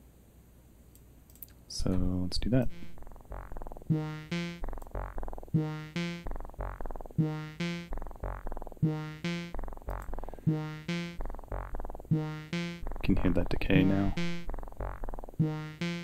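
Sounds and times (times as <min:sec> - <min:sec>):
synth playing looping notes: 0:02.6 - 0:16.0.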